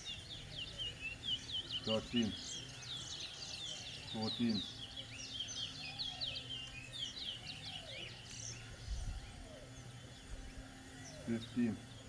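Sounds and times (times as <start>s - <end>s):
finch chirping song: 0.0s - 12.0s.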